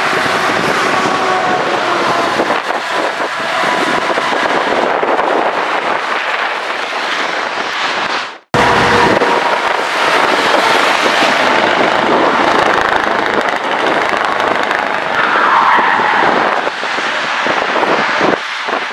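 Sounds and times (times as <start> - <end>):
truck engine noise: 0.0 - 18.9.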